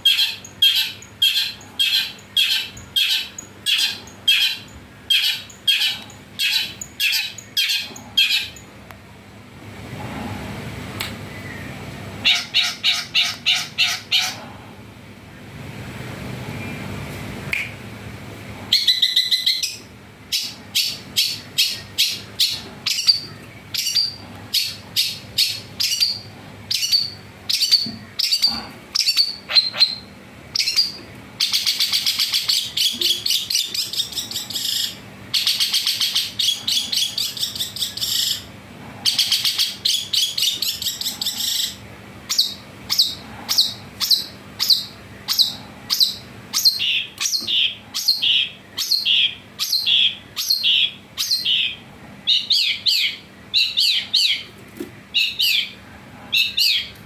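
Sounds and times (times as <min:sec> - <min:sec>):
songbird singing rapid phrases: 0:00.0 - 0:08.7, 0:12.3 - 0:14.4, 0:18.7 - 0:38.5, 0:39.1 - 0:54.5, 0:55.2 - 0:55.8, 0:56.4 - 0:57.0.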